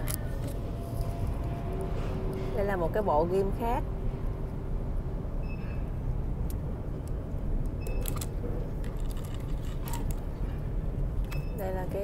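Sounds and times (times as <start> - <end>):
shop background rumble: 0.0 - 12.0.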